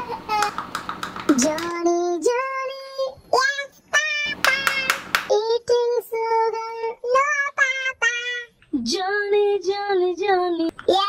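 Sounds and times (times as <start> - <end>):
child singing: 0.0 - 0.6, 1.3 - 11.0.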